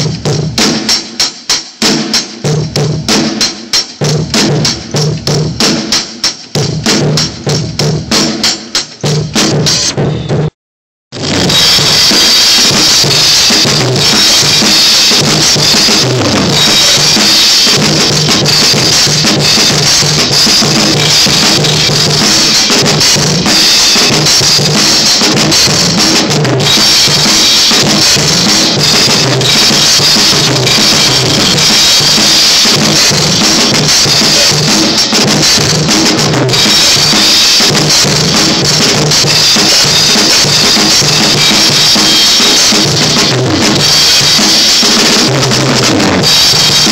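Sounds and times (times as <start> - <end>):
drum kit playing loudly: 0.0 - 46.9.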